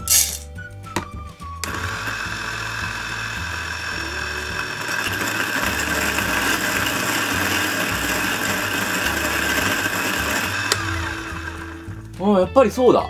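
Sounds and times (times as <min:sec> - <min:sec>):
electric coffee grinder whining: 0:00.0 - 0:00.4, 0:01.5 - 0:12.2.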